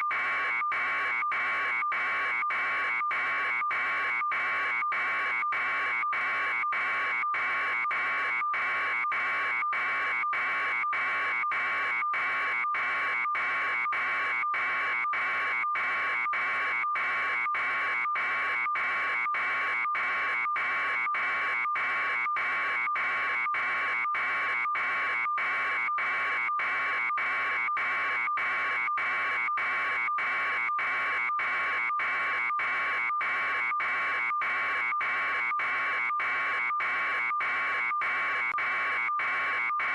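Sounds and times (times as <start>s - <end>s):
electronic alarm buzzer: 0.0s - 39.9s.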